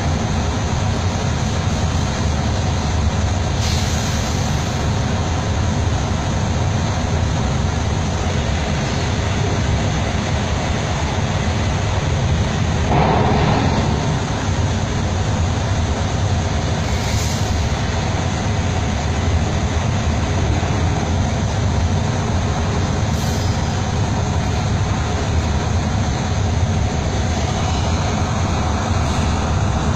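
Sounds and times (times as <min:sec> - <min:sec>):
road noise: 0:00.0 - 0:29.9
truck engine rumbling: 0:00.0 - 0:29.9.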